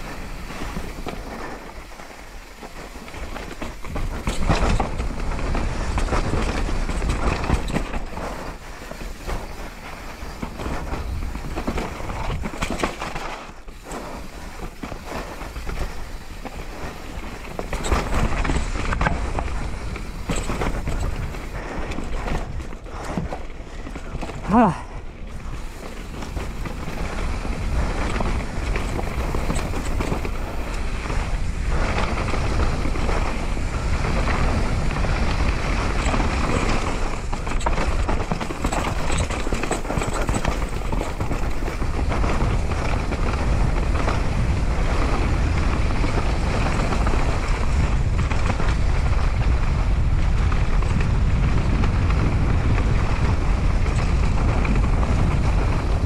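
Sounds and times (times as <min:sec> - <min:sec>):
bike clattering over rough trail: 0:00.0 - 0:56.0
wind rushing over microphone: 0:00.0 - 0:56.0.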